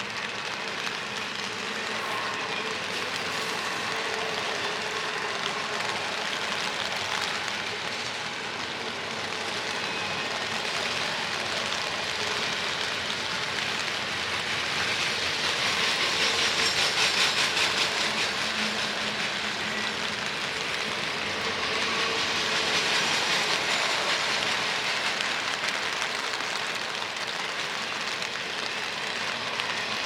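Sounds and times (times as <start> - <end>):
train wheels clickety-clack: 0.0 - 30.0.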